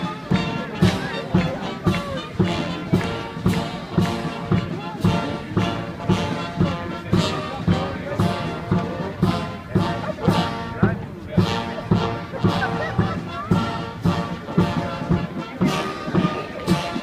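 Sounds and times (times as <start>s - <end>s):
bass drum beat: 0.0s - 17.0s
military band playing a march: 0.0s - 17.0s.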